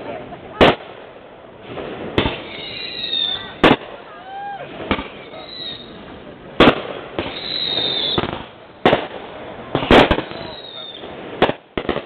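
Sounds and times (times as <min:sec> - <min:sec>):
fireworks bangs: 0:00.0 - 0:12.0
fireworks hissing rush: 0:00.0 - 0:12.0.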